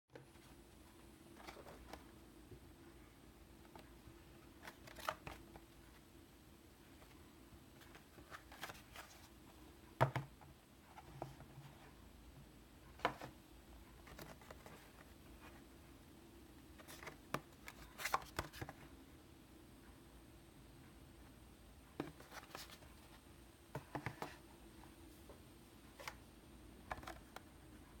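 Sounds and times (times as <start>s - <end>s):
faint steady hum: 0.1s - 28.0s.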